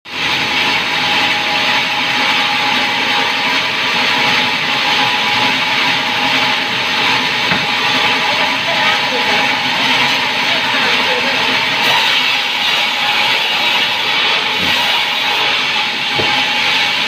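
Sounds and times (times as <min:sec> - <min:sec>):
power saw cutting wood: 0:00.1 - 0:17.0.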